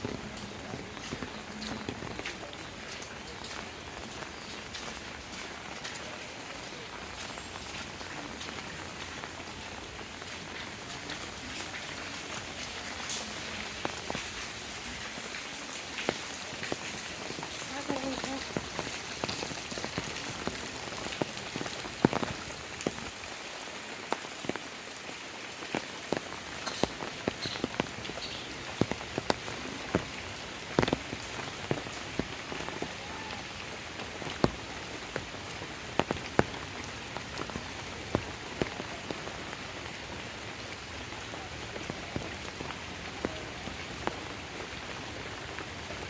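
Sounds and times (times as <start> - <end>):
large raindrops tapping a surface: 0.0 - 46.0
steady rain falling: 0.0 - 46.0.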